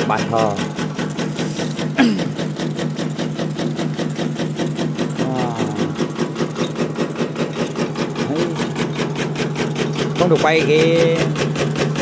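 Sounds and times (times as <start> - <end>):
machine clattering: 0.0 - 12.0
steady motor hum: 0.0 - 12.0.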